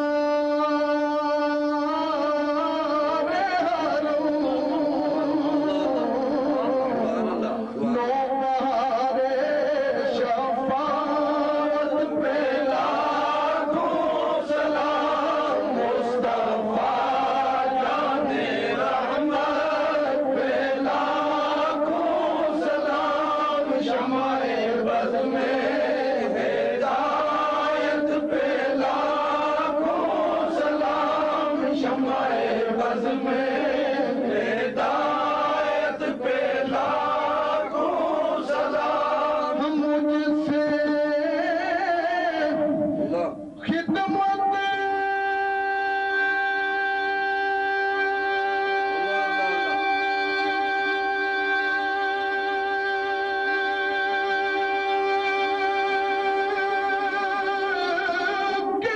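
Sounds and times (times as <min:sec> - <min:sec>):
men chanting devotional chant: 0:00.0 - 0:58.9.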